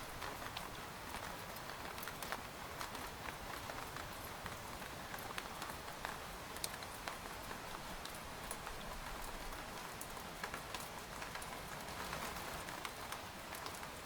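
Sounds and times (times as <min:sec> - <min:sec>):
rain pattering on a tent: 0:00.0 - 0:14.0.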